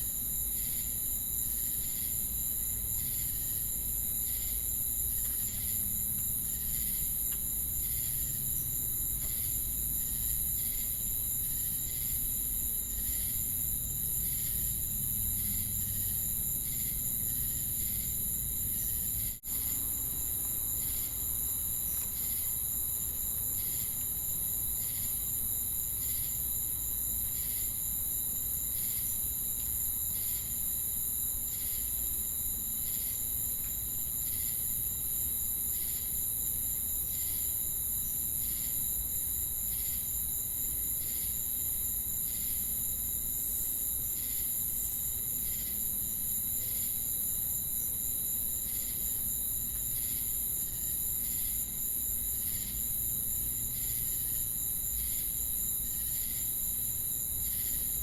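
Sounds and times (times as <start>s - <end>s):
insects trilling: 0.1s - 58.0s.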